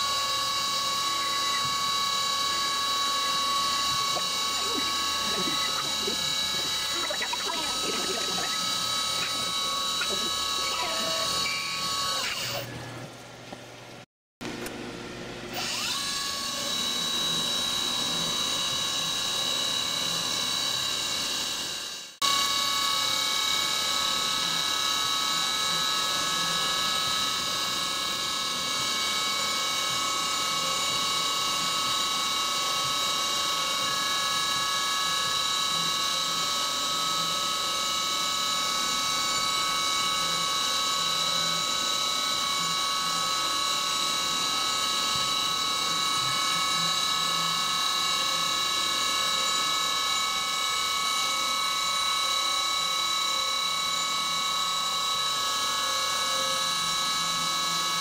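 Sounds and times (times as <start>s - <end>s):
milling machine spindle whine: 0.0s - 13.2s, 15.4s - 58.0s.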